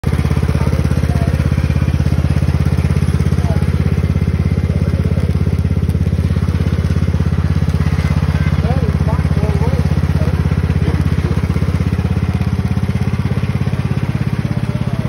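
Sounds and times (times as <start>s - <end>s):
lawn tractor engine running: 0.0s - 15.0s.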